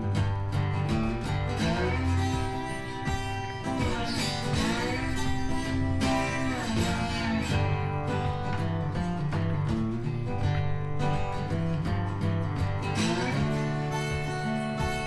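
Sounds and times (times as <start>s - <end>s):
country guitar music: 0.0s - 15.0s.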